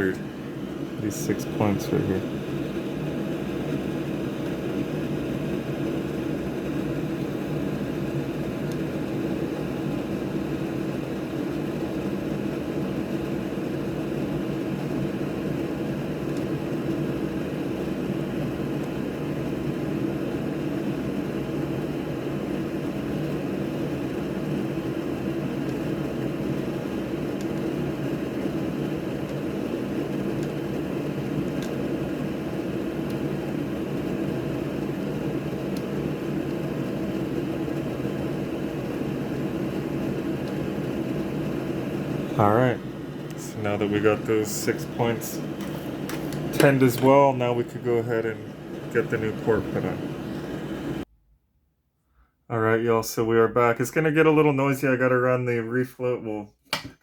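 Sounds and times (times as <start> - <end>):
fan whirring: 0.0 - 51.1.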